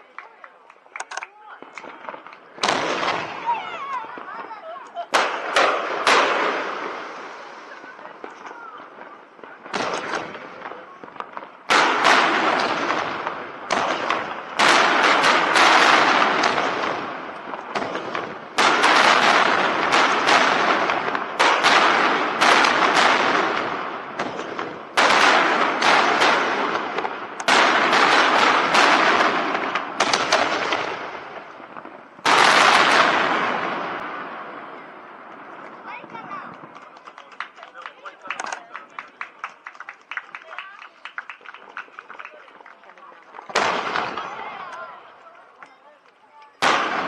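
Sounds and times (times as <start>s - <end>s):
fireworks bursting with crackling: 0.0s - 47.0s.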